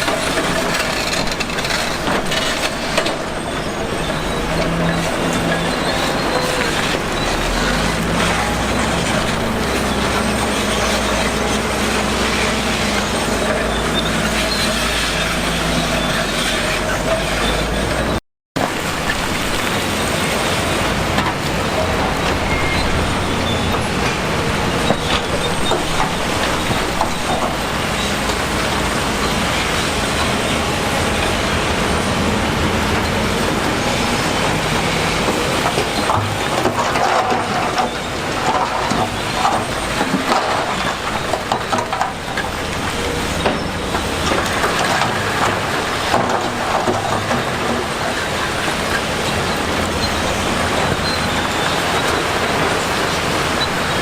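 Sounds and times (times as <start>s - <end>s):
crawler tracks clattering and squealing: 0.0s - 54.0s
diesel machinery engine: 0.0s - 54.0s.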